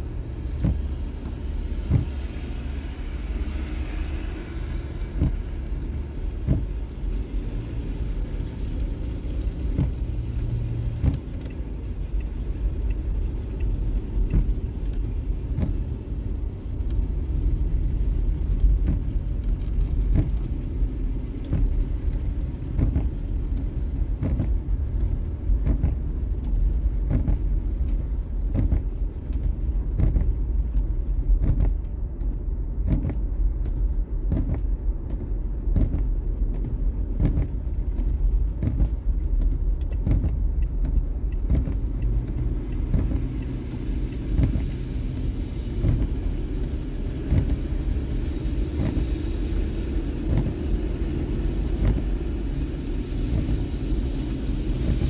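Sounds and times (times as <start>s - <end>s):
vehicle rumbling over snow: 0.0s - 55.0s.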